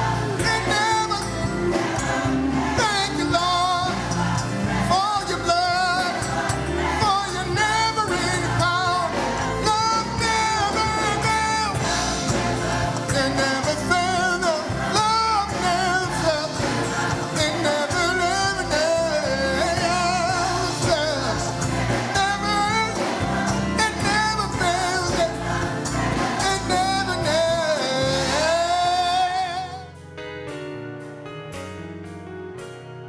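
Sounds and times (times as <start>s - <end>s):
gospel singing: 0.0s - 30.0s
instrumental accompaniment: 0.0s - 33.0s.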